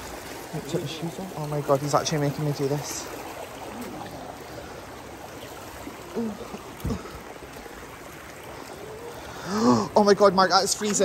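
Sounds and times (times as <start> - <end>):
stream over rocks: 0.0 - 11.0.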